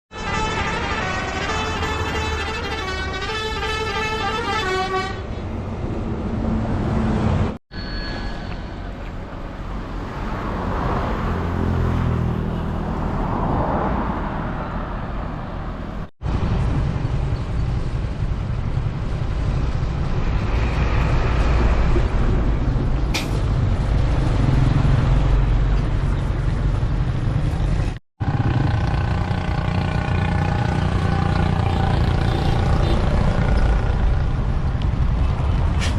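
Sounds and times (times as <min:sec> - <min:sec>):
road noise: 0:00.1 - 0:35.9.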